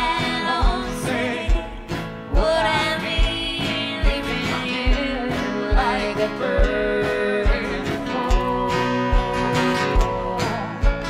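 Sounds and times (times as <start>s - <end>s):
acoustic guitar: 0.0s - 11.0s
banjo: 0.0s - 11.0s
people singing: 0.0s - 11.0s.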